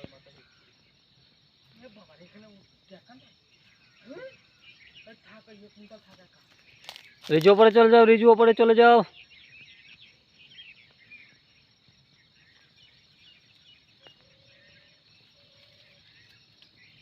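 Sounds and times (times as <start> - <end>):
birds chirping: 0.0 - 17.0
high insect drone: 0.0 - 17.0.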